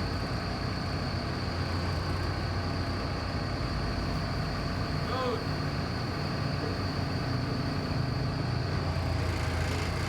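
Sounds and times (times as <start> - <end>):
engine idling with high whine: 0.0 - 10.0.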